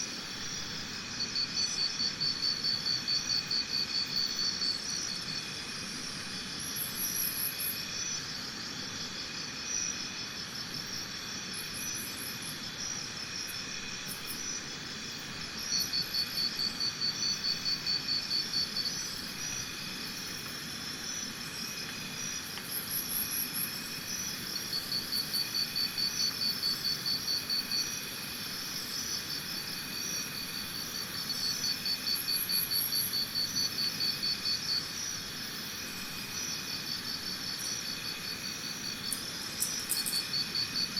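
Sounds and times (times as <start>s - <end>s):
insects chirping chorus: 0.0s - 40.9s
pulsed insect trill: 0.2s - 40.9s.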